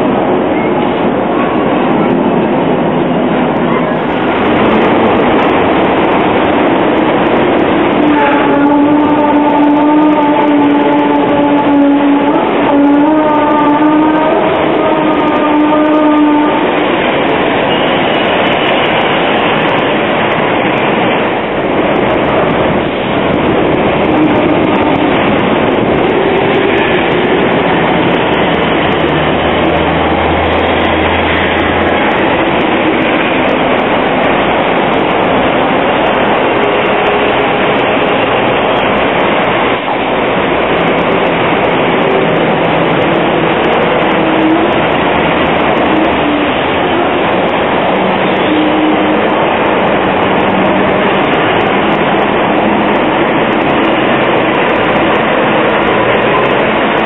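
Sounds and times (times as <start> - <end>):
city traffic: 0.0 - 57.0
tram wheels rolling on rails: 0.0 - 57.0.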